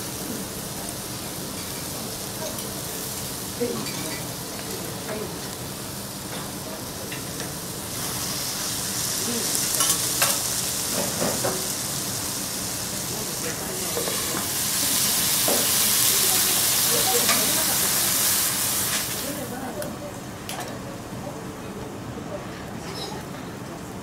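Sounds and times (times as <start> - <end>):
meat sizzling on a griddle: 0.0 - 19.8.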